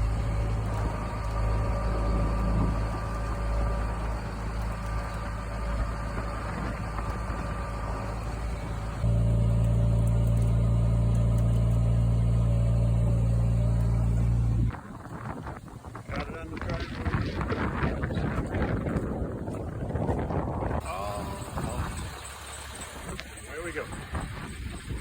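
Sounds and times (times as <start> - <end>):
heavy truck engine running: 0.0 - 25.0.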